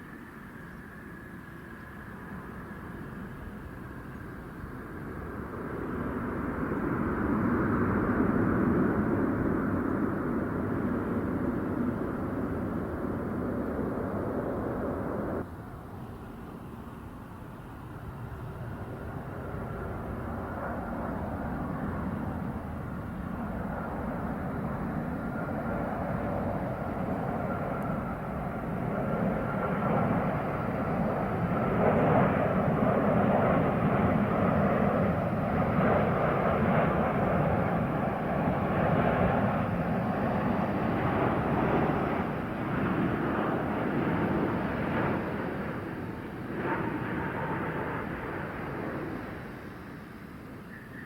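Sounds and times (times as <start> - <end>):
airliner engines rushing: 0.0 - 51.0.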